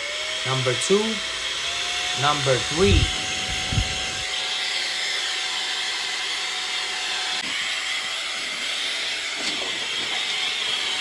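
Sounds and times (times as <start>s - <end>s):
vacuum motor high-pitched whir: 0.0s - 11.0s.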